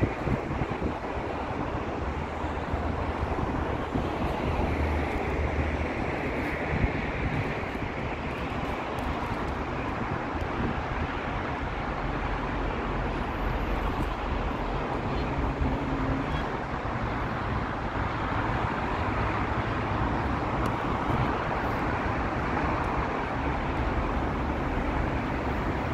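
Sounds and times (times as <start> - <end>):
road traffic noise: 0.0 - 25.9.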